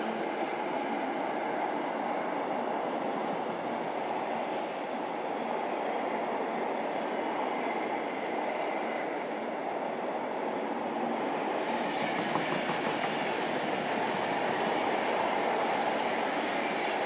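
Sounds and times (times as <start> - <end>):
freight train wheels rumbling on track: 0.0 - 17.0.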